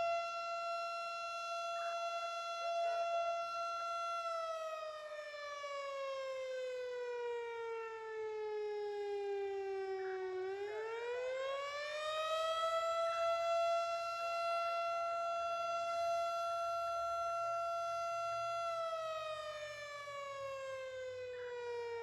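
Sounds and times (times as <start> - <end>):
fire siren wailing: 0.0 - 22.0.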